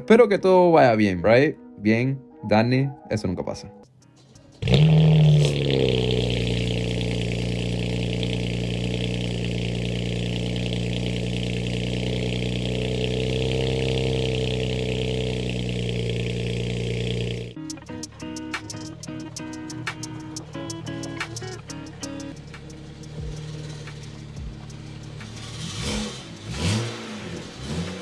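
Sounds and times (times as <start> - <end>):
car engine starting and idling: 4.0 - 28.0.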